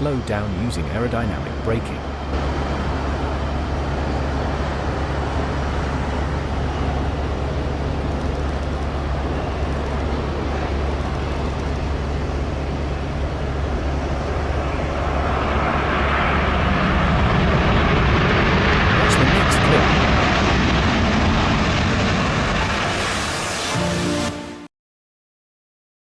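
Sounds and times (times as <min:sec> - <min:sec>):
jet engines roaring: 0:00.0 - 0:24.7.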